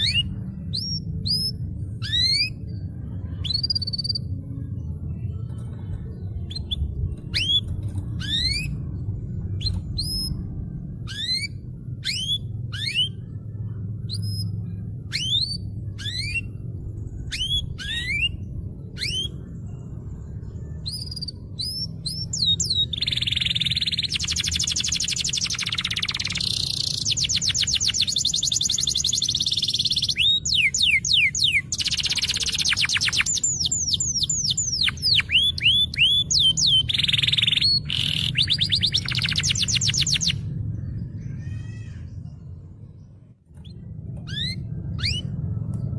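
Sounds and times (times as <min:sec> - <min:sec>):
canary singing: 0:00.0 - 0:45.9
steady low hum: 0:00.0 - 0:45.9.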